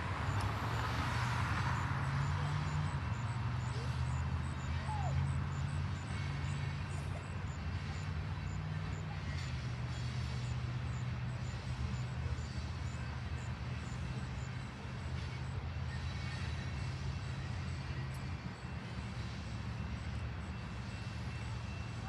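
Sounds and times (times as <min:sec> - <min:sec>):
train rolling past: 0:00.0 - 0:22.0.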